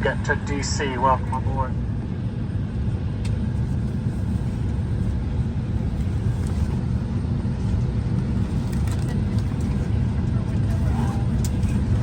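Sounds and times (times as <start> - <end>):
air-conditioning airflow hum: 0.0 - 12.0
airplane cabin rumble: 0.0 - 12.0.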